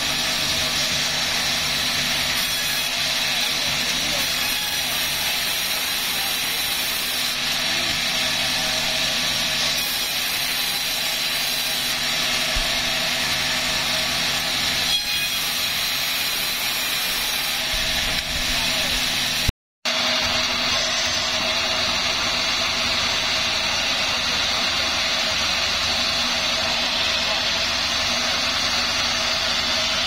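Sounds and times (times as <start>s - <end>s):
sawmill machinery humming: 0.0s - 30.0s.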